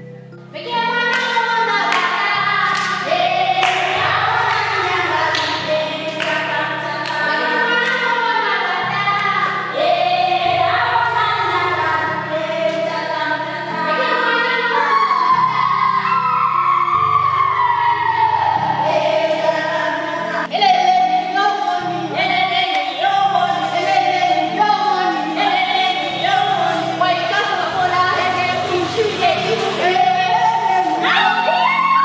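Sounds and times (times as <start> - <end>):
choir singing over bass line: 0.5 - 32.0.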